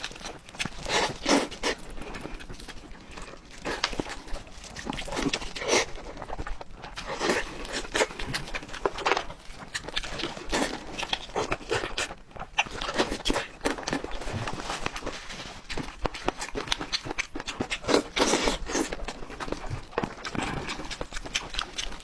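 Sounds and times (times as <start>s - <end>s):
food chewing and crunching: 0.0s - 22.0s.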